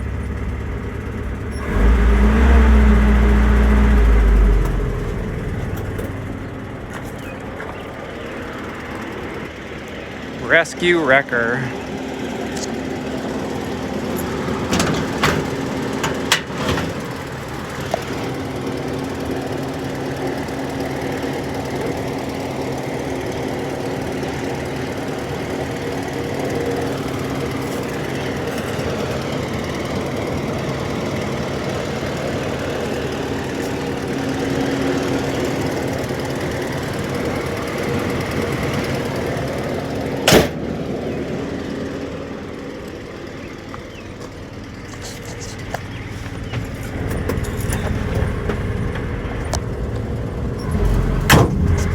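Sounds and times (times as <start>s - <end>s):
engine idling: 0.0s - 51.9s.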